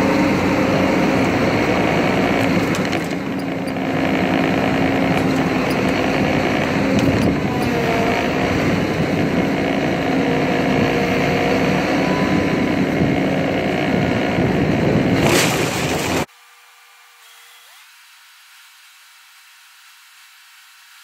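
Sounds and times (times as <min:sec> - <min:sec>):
combine harvester drone: 0:00.0 - 0:17.8.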